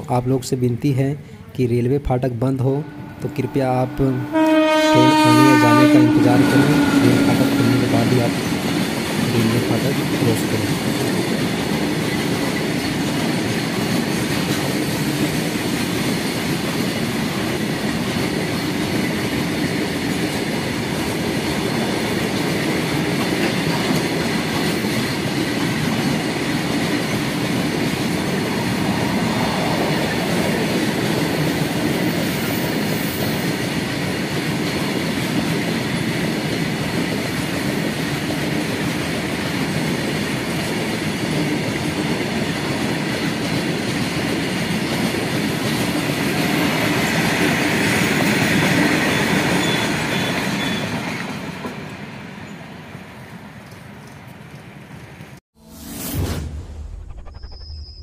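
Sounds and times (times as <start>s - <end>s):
freight train rolling past: 2.1s - 56.1s.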